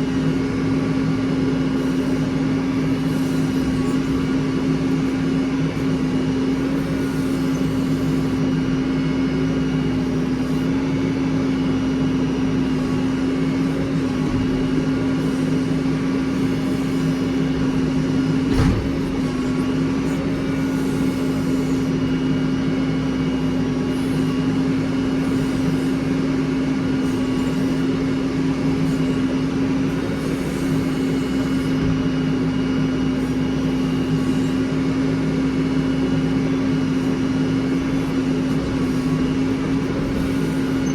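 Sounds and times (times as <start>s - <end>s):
heavy machine engine running: 0.0s - 40.9s.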